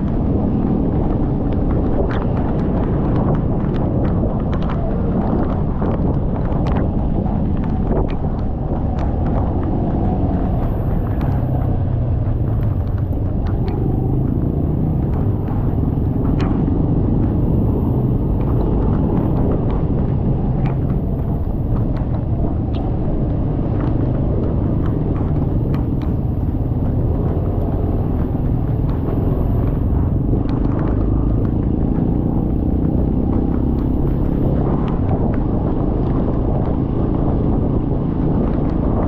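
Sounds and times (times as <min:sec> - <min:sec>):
motorcycle engine and road rumble: 0:00.0 - 0:39.0
wind noise on microphone: 0:00.0 - 0:39.0.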